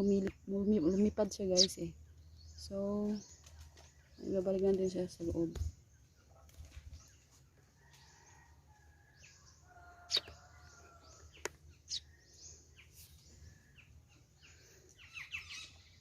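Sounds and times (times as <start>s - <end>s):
sparrow chirping: 0.0s - 7.4s, 8.1s - 16.0s.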